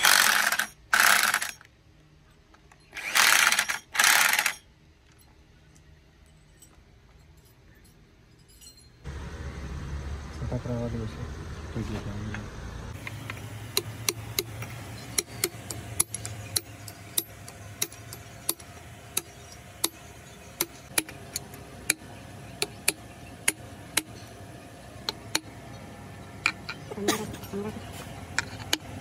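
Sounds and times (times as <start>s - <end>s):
steady low hum: 4.6s - 29.0s.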